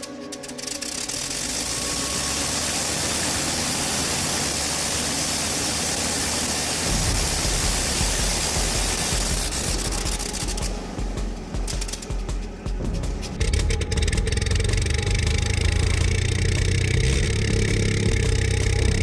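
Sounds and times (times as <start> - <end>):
rotary aircraft engine running: 0.0 - 19.0.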